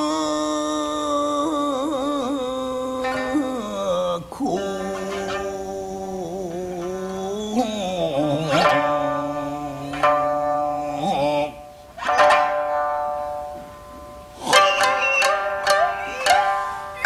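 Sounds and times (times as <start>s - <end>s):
singer's long wavering note: 0.0s - 17.0s
plucked shamisen notes: 1.6s - 17.0s.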